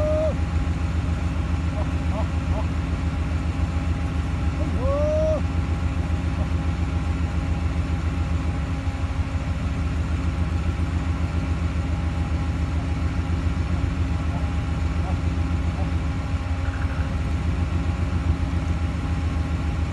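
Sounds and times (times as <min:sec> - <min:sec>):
vehicle engine idling: 0:00.0 - 0:19.9.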